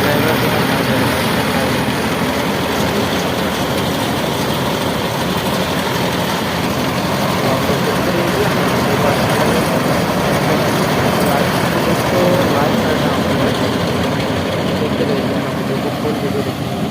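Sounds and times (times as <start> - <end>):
combine harvester running: 0.0 - 16.9.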